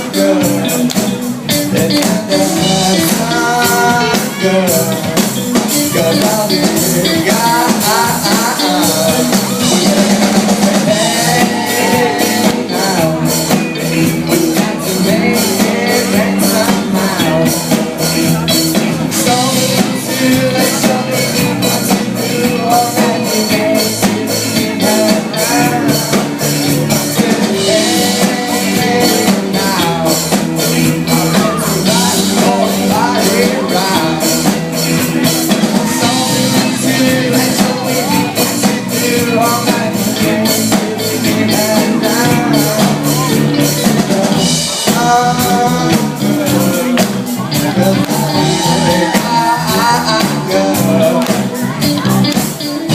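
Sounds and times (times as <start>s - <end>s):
drums keeping steady beat: 0.0s - 52.9s
live rock band playing: 0.0s - 52.9s.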